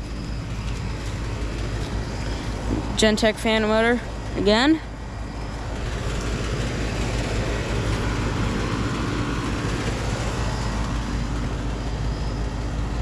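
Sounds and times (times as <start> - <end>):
condenser fans whooshing: 0.0 - 13.0
low compressor hum: 0.0 - 13.0.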